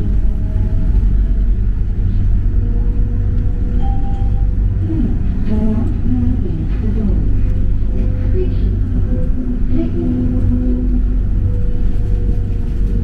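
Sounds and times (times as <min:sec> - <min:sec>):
steady hum: 0:00.0 - 0:13.0
train car low rumble: 0:00.0 - 0:13.0.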